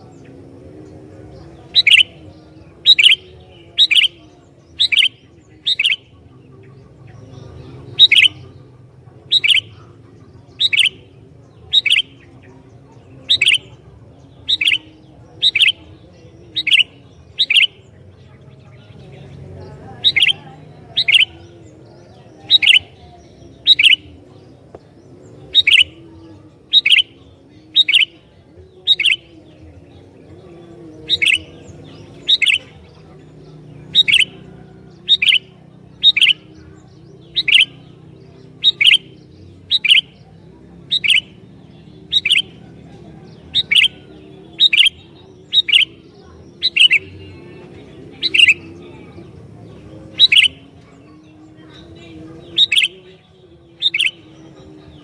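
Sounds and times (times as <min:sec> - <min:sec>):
bulbul calling: 0:00.0 - 0:55.0.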